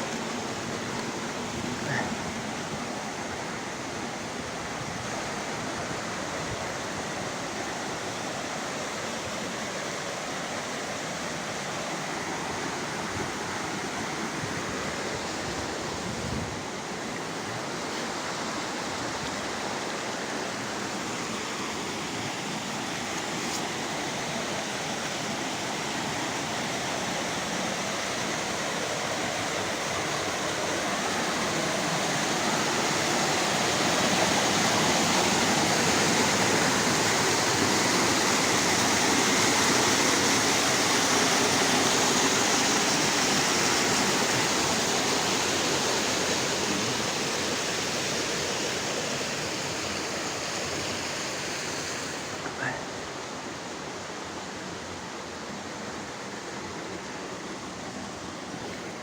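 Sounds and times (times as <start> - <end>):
fast water rushing: 0.0 - 59.0.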